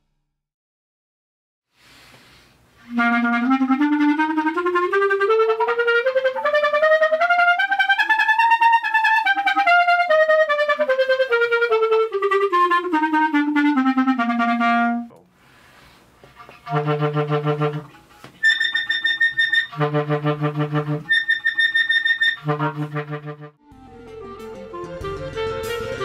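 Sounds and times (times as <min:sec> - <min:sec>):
clarinet rapid repeated notes: 0:02.8 - 0:15.2, 0:16.4 - 0:26.0.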